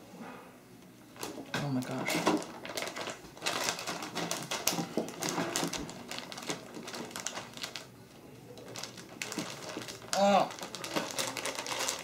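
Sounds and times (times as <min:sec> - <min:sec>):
plastic bag crinkling: 0:01.2 - 0:12.0.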